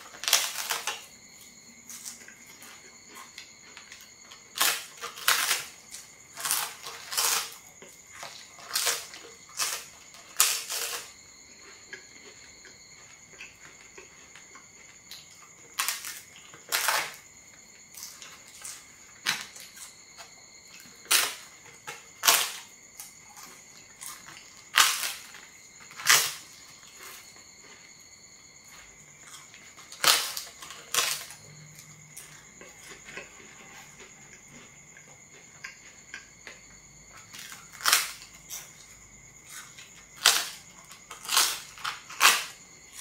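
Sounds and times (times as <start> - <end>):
crunching crispy cracker: 0.0 - 43.0.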